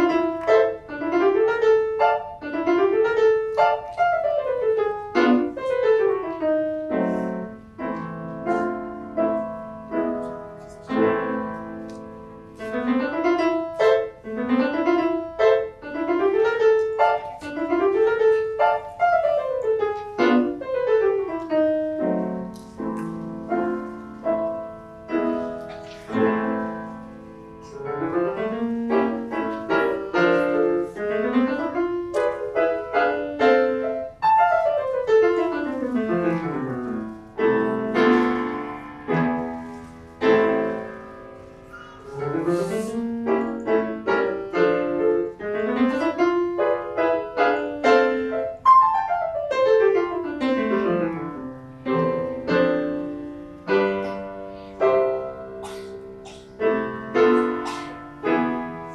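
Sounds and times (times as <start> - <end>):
solo piano: 0.0 - 58.9.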